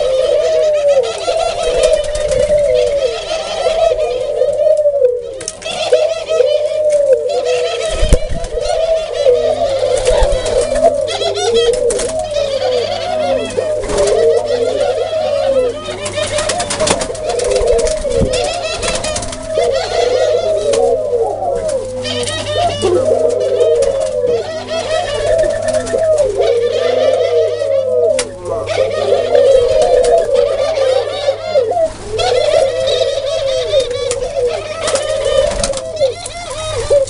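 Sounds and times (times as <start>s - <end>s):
doves cooing: 0.0s - 37.0s
steady low hum: 0.0s - 37.0s.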